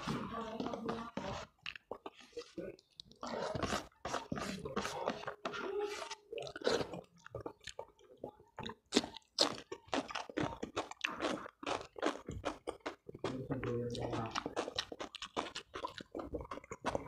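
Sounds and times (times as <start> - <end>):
chewing with crisp crunches: 0.0 - 17.0.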